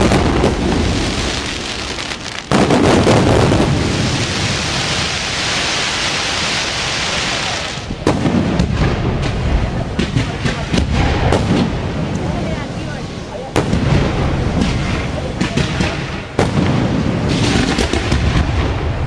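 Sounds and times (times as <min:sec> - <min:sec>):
fireworks crackling hiss: 0:00.0 - 0:19.0.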